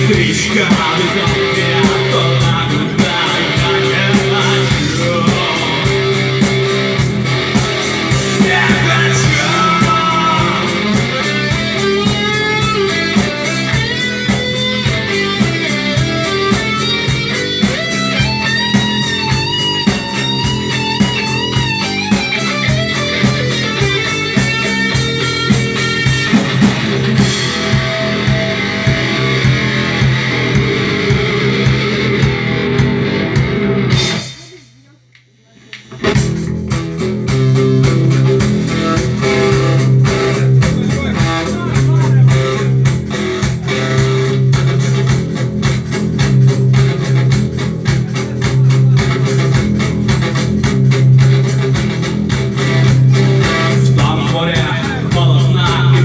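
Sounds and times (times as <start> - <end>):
wavering guitar melody: 0.0 - 34.3, 36.0 - 56.0
fast guitar strumming: 0.0 - 34.7, 36.0 - 56.0.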